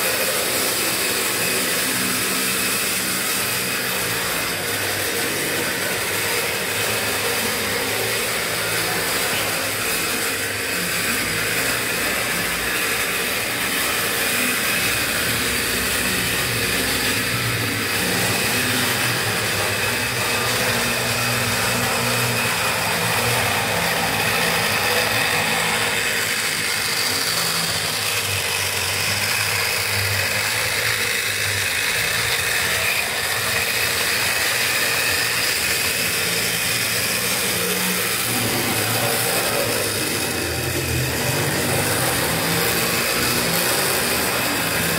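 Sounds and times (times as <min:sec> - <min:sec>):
model train motor whirring: 0:00.0 - 0:44.9
wheels running on rails: 0:00.0 - 0:44.9.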